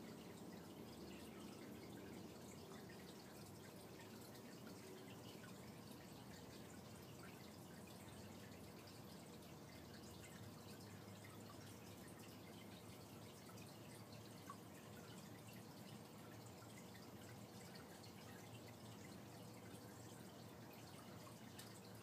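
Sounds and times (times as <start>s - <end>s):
aquarium water trickling: 0.0s - 22.0s
low steady hum: 0.0s - 22.0s.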